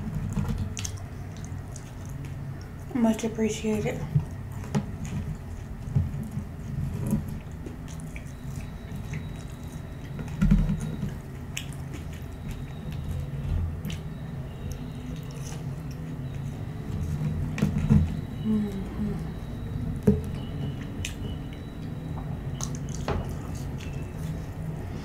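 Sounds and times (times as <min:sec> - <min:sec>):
chewing fries: 0:00.0 - 0:25.0.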